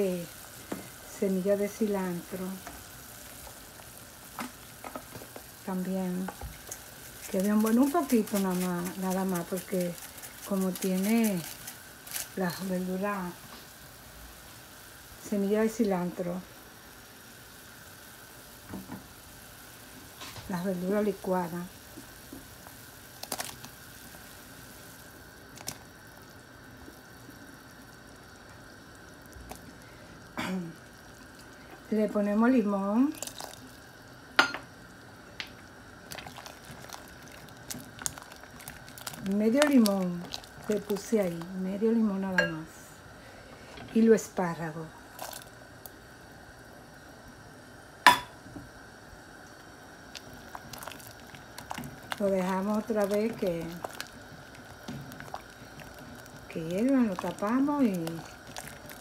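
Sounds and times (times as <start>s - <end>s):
soup bubbling in a pot: 0.0s - 59.0s.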